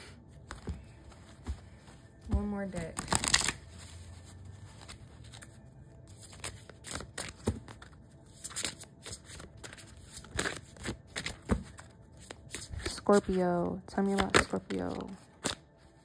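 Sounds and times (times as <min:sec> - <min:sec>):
cards being shuffled: 0:00.3 - 0:16.0.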